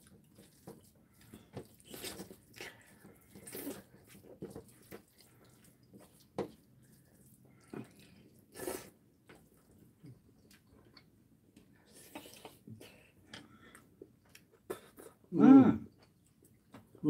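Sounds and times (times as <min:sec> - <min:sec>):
noodles slurped and chewed: 0:00.0 - 0:15.3.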